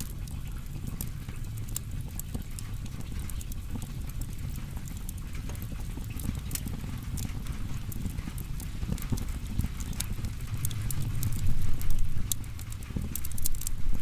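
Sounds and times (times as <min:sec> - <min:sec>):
fire crackling and popping: 0:00.0 - 0:14.0
low rush of flames: 0:00.0 - 0:14.0.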